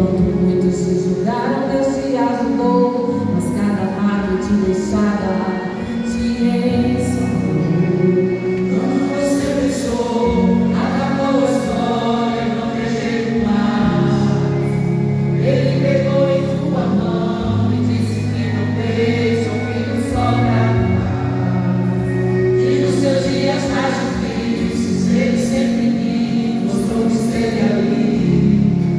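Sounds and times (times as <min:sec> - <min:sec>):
vocal group singing in harmony: 0:00.0 - 0:28.9
sustained bass notes: 0:03.1 - 0:28.9.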